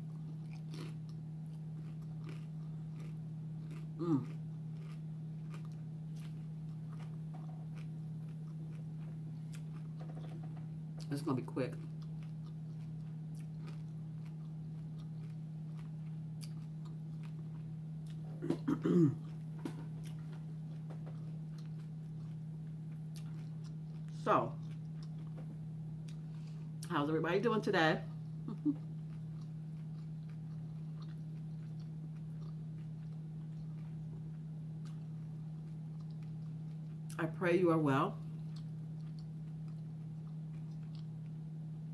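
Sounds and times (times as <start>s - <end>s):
crunching clicks of chewing: 0.0s - 26.9s, 28.1s - 37.2s, 38.2s - 41.4s
steady low hum: 0.0s - 41.9s.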